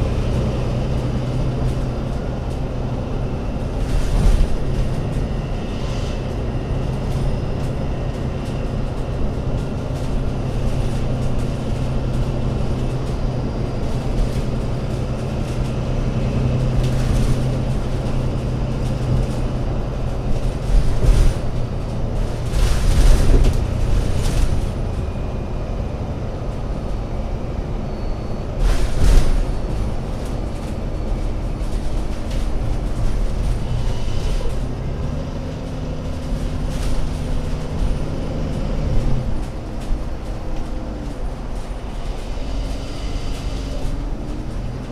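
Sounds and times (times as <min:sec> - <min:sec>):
bus diesel engine droning: 0:00.0 - 0:44.9.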